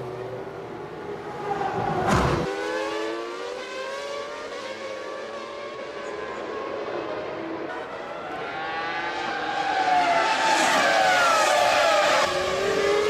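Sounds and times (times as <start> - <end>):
racing car engines at high revs: 0.0 - 13.0
racing car passing by: 1.0 - 13.0.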